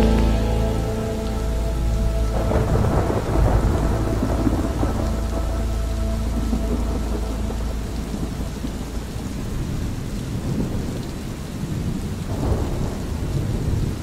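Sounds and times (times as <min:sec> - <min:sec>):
rolling thunder: 0:00.0 - 0:14.0
steady rain: 0:00.0 - 0:14.0.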